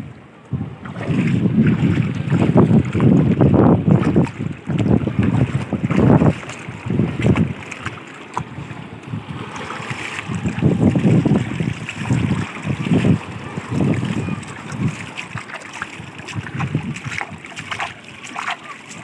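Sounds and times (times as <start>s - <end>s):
wind on microphone: 0.0s - 19.0s
seawater lapping over rocks: 0.1s - 19.0s.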